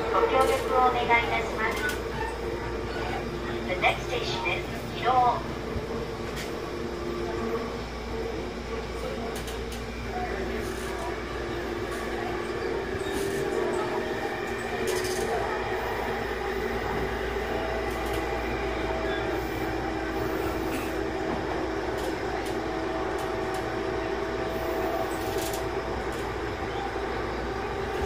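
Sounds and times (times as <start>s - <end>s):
train motor tone: 0.0s - 28.0s
train rumble inside car: 0.0s - 28.0s.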